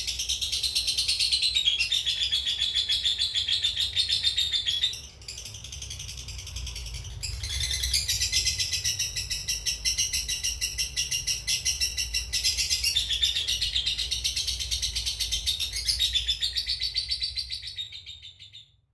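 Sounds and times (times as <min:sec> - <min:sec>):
lovebird chattering trill: 0:00.0 - 0:18.7.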